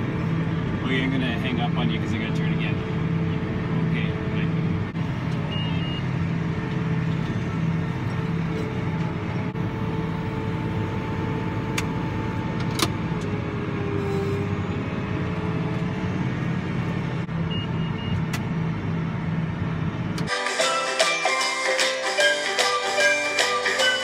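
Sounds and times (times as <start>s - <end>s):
road and field noise: 0.0s - 24.0s
tractor engine drone: 0.0s - 24.0s.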